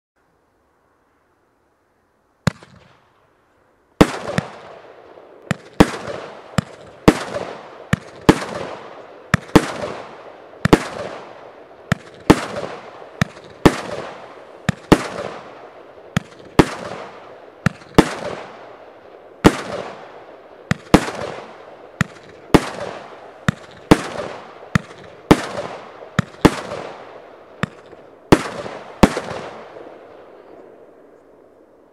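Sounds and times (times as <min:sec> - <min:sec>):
firework shots with crackle: 0:02.4 - 0:03.3, 0:04.0 - 0:30.6.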